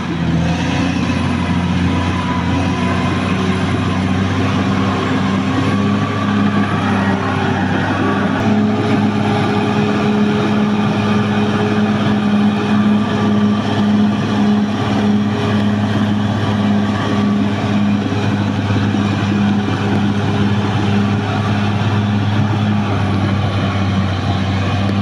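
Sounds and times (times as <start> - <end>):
bulldozer diesel engine drone: 0.0 - 25.0.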